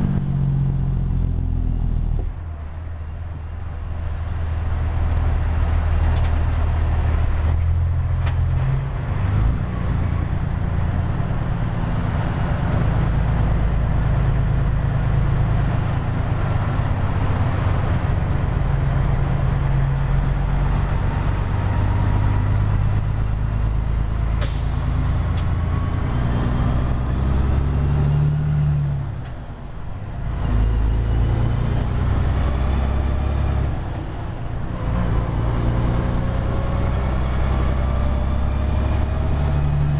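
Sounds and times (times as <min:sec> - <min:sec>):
truck diesel engine shifting gears: 0:00.0 - 0:39.9.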